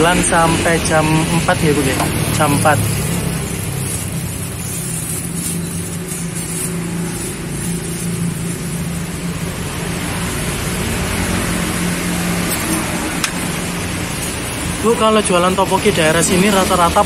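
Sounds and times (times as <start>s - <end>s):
roadside traffic hum: 0.0s - 17.0s
plastic bag rustling: 1.3s - 17.0s.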